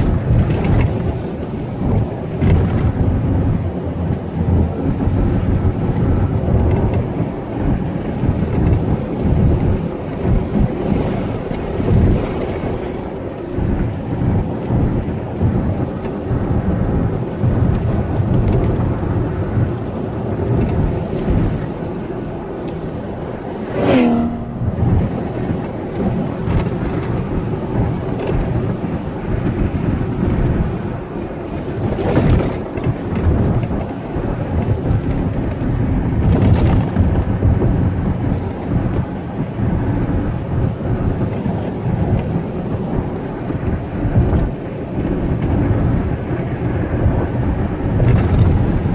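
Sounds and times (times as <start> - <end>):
car road and wind rumble: 0.0 - 48.9.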